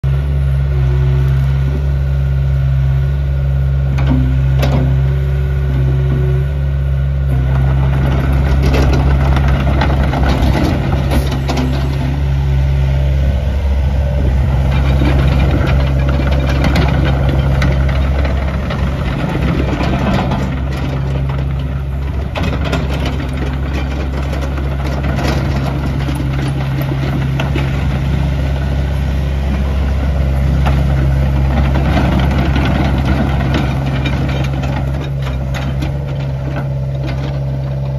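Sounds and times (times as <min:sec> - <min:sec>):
excavator diesel engine running: 0:00.0 - 0:37.9
knocks and hydraulic noise: 0:03.8 - 0:06.6, 0:07.3 - 0:37.9.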